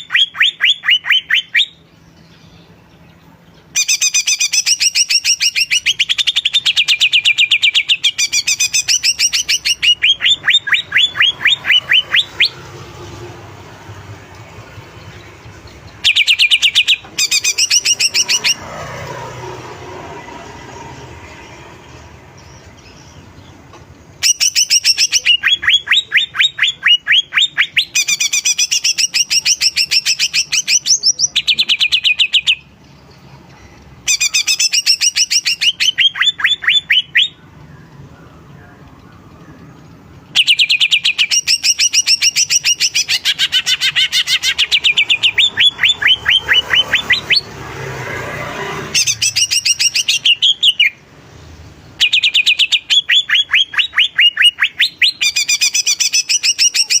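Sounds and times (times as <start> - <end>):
bird singing high chattering notes: 0.0 - 57.0.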